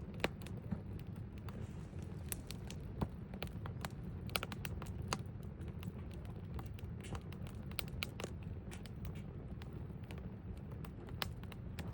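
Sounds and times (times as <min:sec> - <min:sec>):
campfire pops and snaps: 0:00.0 - 0:11.9
low rumble of burning: 0:00.0 - 0:11.9.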